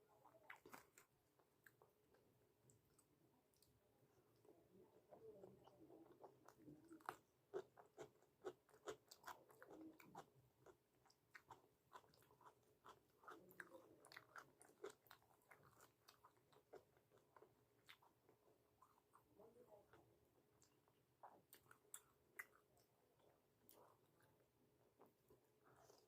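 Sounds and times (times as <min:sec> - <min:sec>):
person chewing food: 0:00.2 - 0:19.3, 0:20.5 - 0:26.0.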